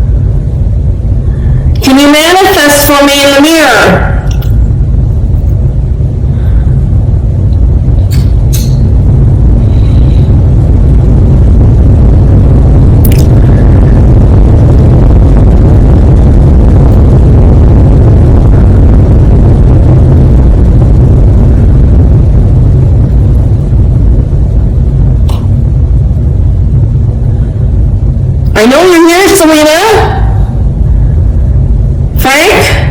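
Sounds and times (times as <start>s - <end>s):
low rumble: 0.0s - 32.9s.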